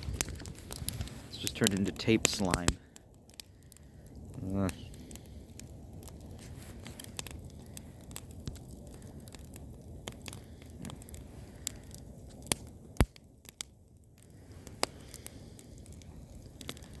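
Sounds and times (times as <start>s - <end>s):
low rush of fire: 0.0s - 17.0s
plastic crackling and popping: 0.0s - 17.0s.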